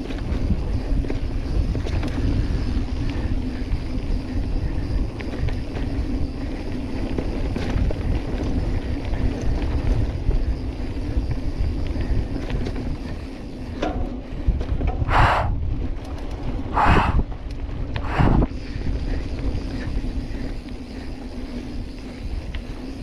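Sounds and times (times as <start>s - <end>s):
bike clicks and rattles: 0.0s - 23.0s
bike tyres rumbling: 0.0s - 23.0s
wind buffeting microphone: 0.0s - 23.0s.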